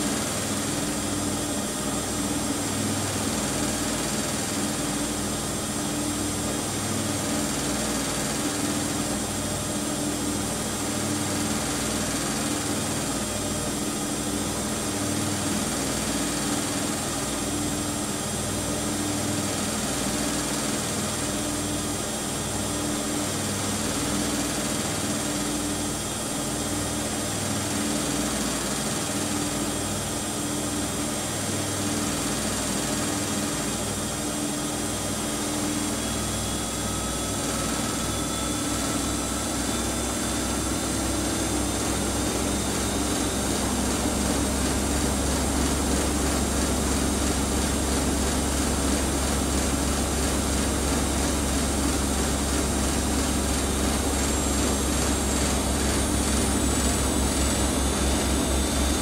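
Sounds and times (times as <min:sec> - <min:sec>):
washing machine motors humming: 0:00.0 - 0:59.0.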